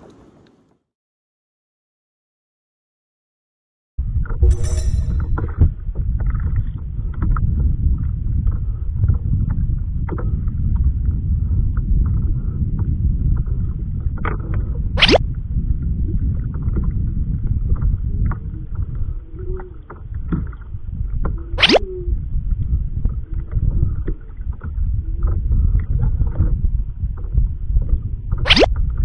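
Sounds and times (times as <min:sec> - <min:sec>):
wind rumbling on microphone: 0:04.0 - 0:29.0.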